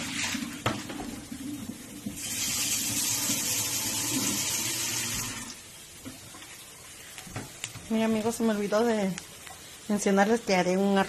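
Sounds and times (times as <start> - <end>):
tap water running: 0.0 - 10.0.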